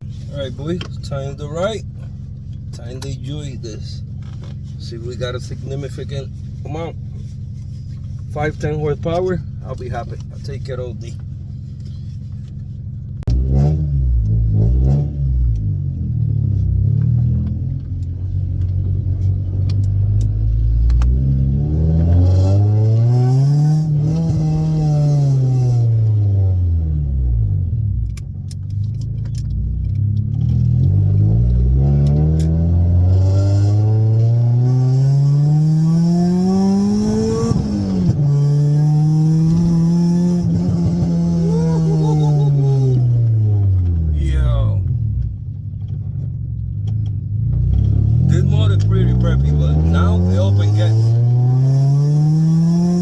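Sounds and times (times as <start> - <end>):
car engine and exhaust revving: 0.0 - 53.0.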